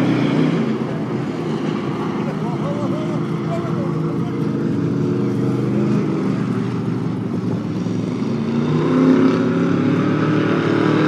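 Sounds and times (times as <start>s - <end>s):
race car engine: 0.0s - 11.0s.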